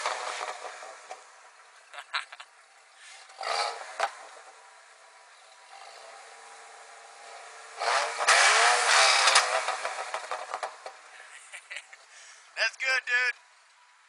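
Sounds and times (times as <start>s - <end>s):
car engine idling and revving: 0.0s - 12.6s, 13.4s - 14.0s.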